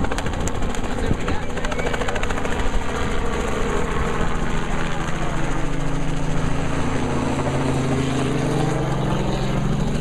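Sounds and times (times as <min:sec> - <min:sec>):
helicopter engine and rotor: 0:00.0 - 0:10.0.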